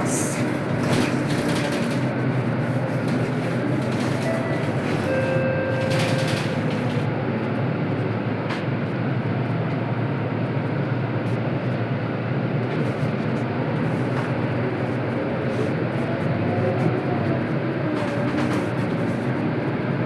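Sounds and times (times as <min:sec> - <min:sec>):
bus diesel engine: 0:00.0 - 0:20.0
road noise: 0:00.0 - 0:20.0.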